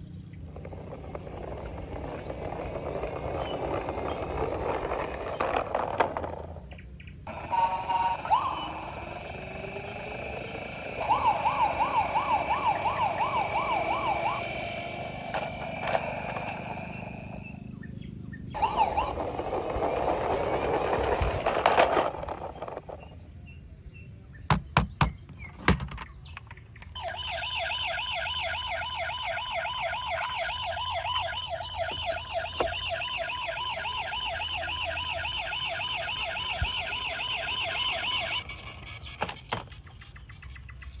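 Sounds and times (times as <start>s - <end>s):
electronic toy siren warble: 0.5s - 6.4s, 7.2s - 17.7s, 18.5s - 23.0s, 27.0s - 39.5s.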